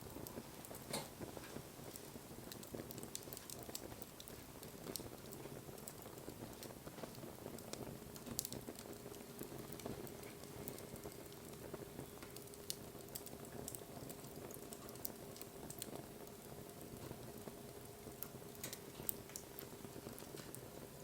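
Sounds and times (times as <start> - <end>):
low steady hiss: 0.0 - 21.0
wood fire crackling and popping: 0.0 - 21.0.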